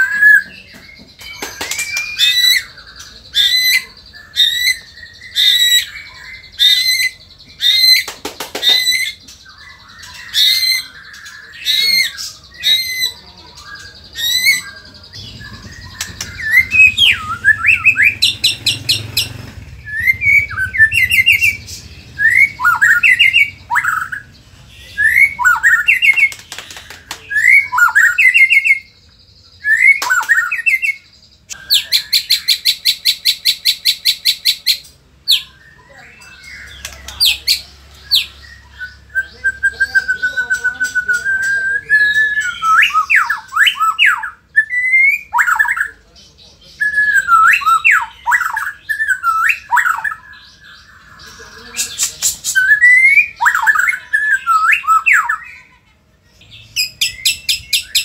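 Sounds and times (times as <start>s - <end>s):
songbird whistling song: 0.0s - 58.0s.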